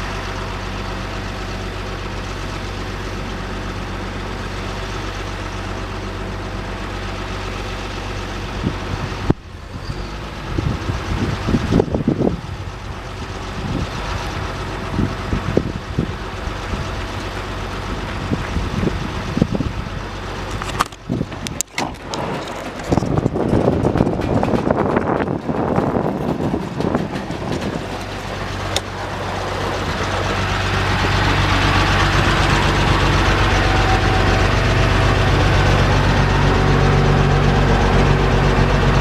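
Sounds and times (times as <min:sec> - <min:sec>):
low bumps and rumbles: 0:00.0 - 0:39.0
truck engine idling: 0:00.0 - 0:39.0.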